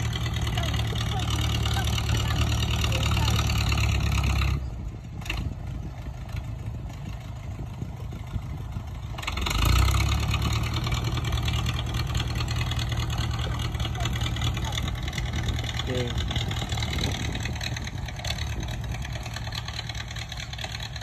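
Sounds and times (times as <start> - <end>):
tractor engine revving under load: 0.0 - 21.0.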